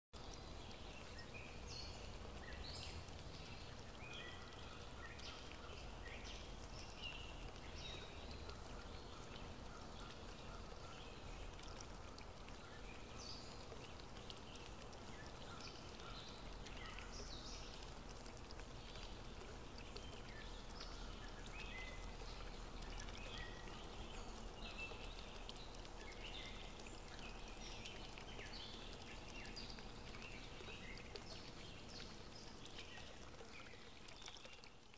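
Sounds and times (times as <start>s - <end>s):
stream water flowing: 0.2s - 34.9s.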